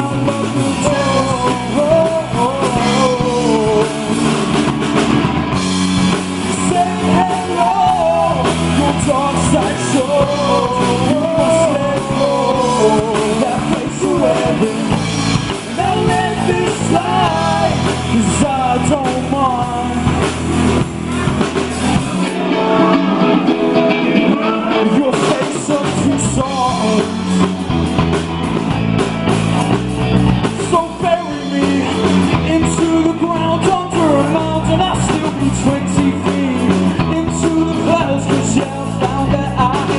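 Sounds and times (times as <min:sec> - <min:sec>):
person singing lead vocal: 0:00.0 - 0:04.9, 0:06.0 - 0:27.8, 0:30.5 - 0:39.9
live rock band playing: 0:00.0 - 0:39.9.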